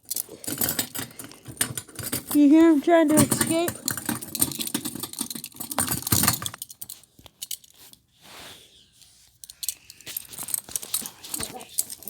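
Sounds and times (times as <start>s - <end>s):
handcuff chains clinking and rattling: 0.0s - 8.0s, 9.4s - 12.0s.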